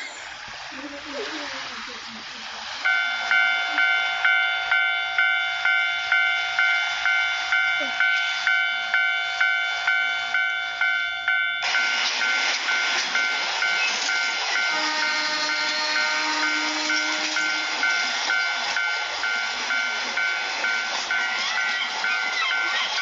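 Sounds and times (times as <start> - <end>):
passing train rushing: 0.0 - 23.0
level-crossing alarm ringing: 2.8 - 23.0.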